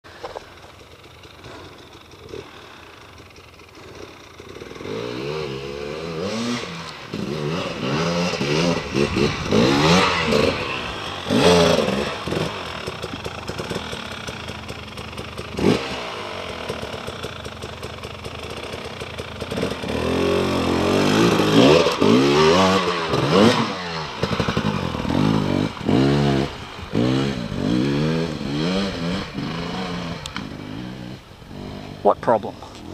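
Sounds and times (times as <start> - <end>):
dirt bike engine revving: 0.2 - 32.9.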